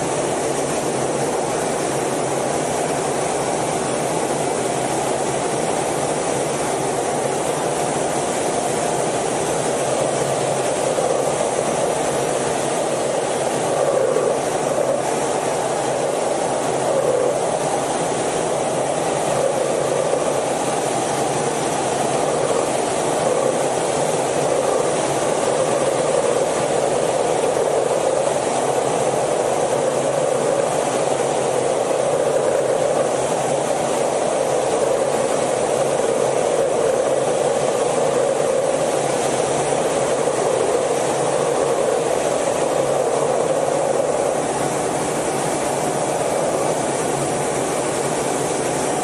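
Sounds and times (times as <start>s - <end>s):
jet engine and airflow drone: 0.0s - 49.0s.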